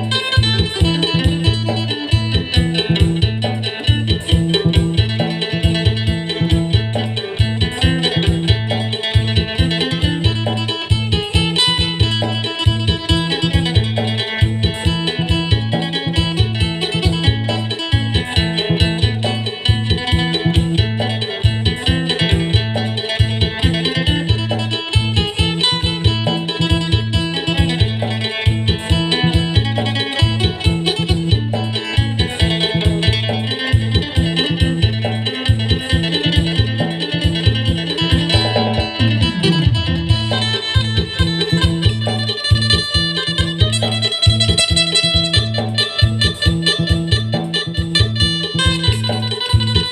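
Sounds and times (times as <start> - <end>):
low bass line: 0.0 - 49.9
plucked lute melody: 0.0 - 49.9.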